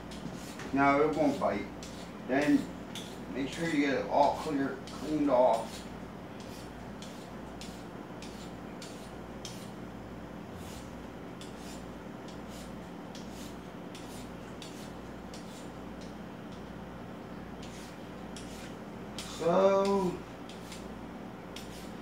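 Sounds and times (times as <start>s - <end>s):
steady low hum: 0.0s - 22.0s
peeler scraping carrot: 0.1s - 9.8s, 10.5s - 15.7s, 17.6s - 20.9s, 21.5s - 22.0s.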